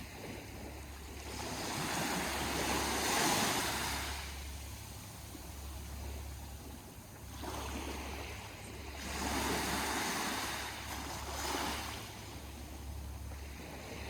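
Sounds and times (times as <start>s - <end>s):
sea waves washing: 0.0s - 14.0s
steady low rumble: 0.0s - 14.0s.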